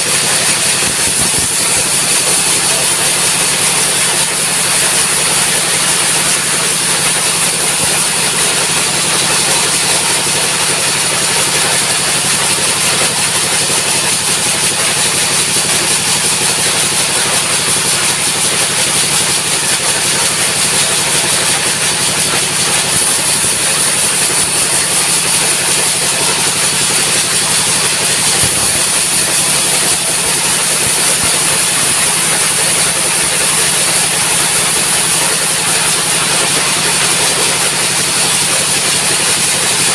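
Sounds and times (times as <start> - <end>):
sawmill engine running steadily: 0.0 - 39.9.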